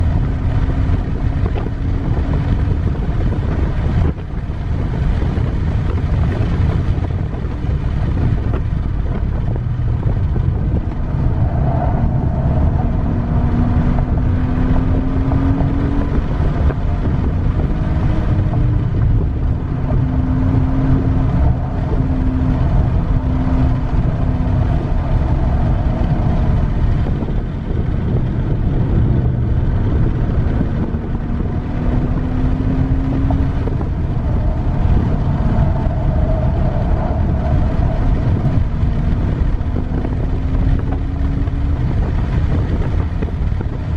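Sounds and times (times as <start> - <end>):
car engine revving: 0.0 - 43.9
road rumble: 0.0 - 43.9
wind on microphone: 0.0 - 43.9.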